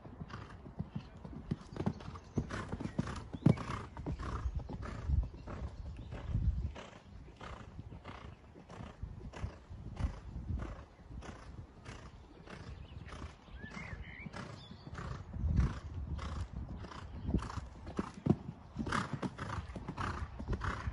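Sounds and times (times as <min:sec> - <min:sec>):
horse hoofbeats on sand: 0:00.0 - 0:20.9
horse breathing: 0:01.6 - 0:20.9.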